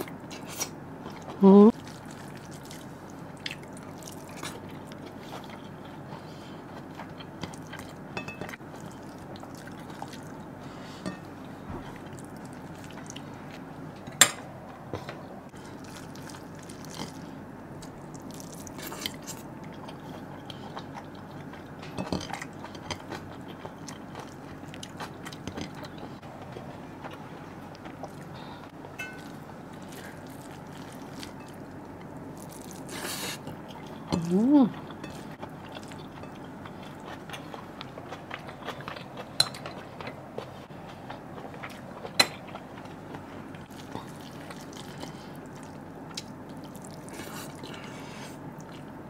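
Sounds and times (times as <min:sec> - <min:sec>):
person chewing food: 0:00.0 - 0:13.7, 0:14.6 - 0:49.0.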